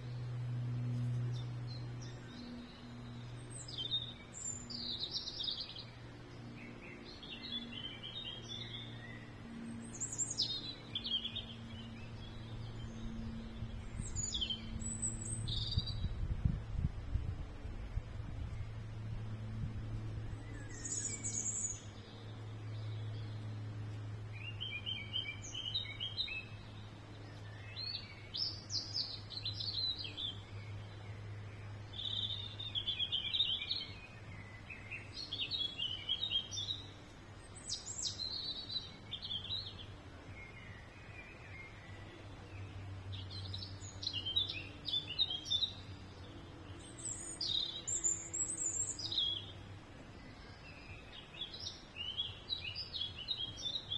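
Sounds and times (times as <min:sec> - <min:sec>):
steady low hum: 0:00.0 - 0:53.8
songbirds chirping: 0:00.0 - 0:53.9.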